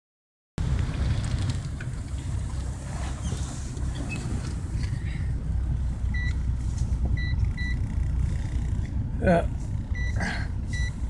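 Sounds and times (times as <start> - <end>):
car engine and road noise: 0.6 - 11.0.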